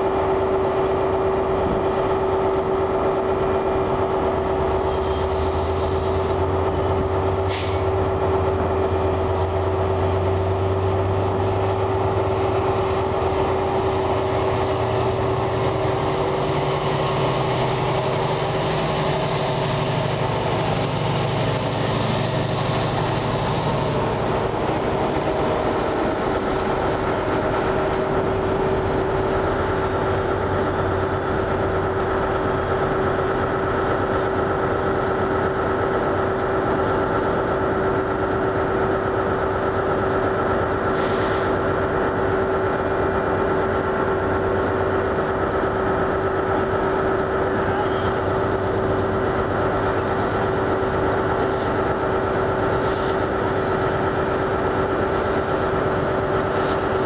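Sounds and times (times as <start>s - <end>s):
locomotive engine droning: 0.0s - 57.0s.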